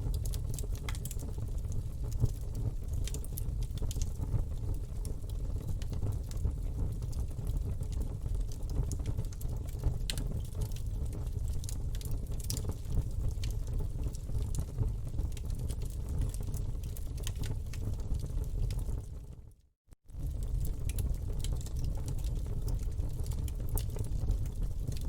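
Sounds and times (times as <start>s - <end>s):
campfire crackling and popping: 0.0s - 19.1s, 20.1s - 25.0s
low rumble of flames: 0.0s - 25.0s.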